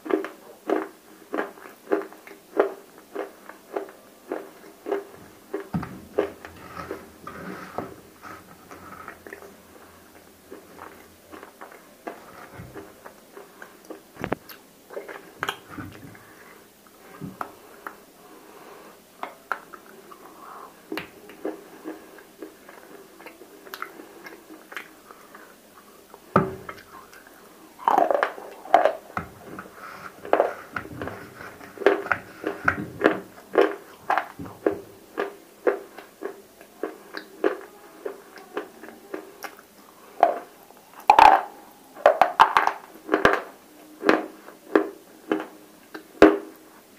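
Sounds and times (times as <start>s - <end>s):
crunching and chewing: 0.0s - 18.0s, 19.2s - 46.6s.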